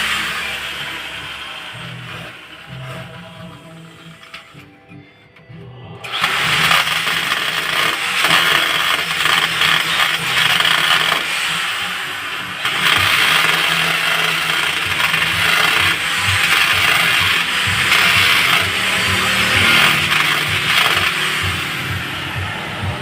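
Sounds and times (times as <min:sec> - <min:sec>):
power drill boring: 0:00.0 - 0:04.7, 0:06.0 - 0:23.0.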